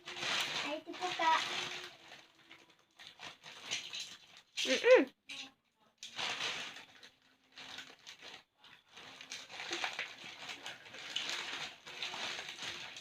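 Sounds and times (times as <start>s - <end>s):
packaging rustling and crinkling: 0.0s - 4.6s, 6.0s - 13.0s.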